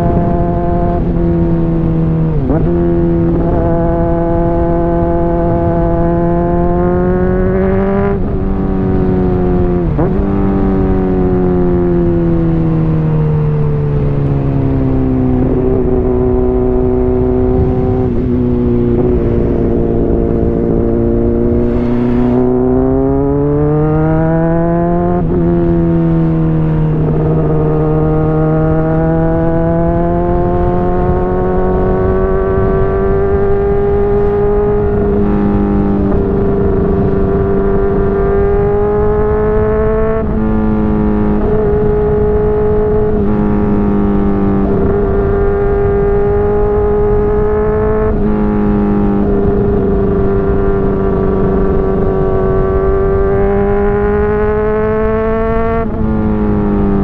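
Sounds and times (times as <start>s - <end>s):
motorcycle engine shifting gears: 0.0s - 57.0s
wind rush: 0.0s - 57.0s.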